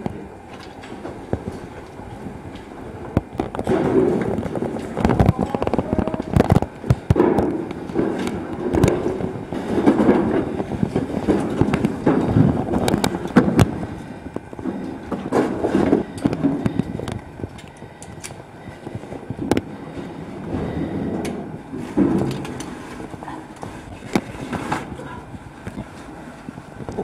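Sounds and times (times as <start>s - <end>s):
rustling near microphone: 0.7s - 27.0s.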